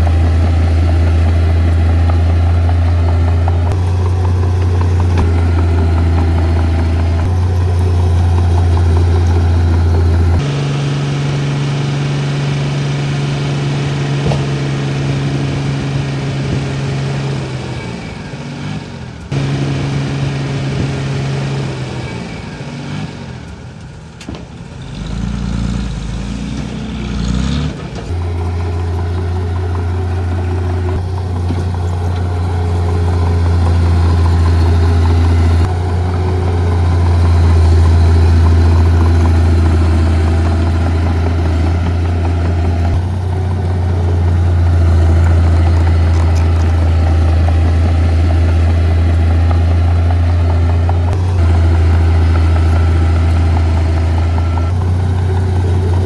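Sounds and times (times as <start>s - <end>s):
heavy diesel engine drone: 0.0s - 56.0s.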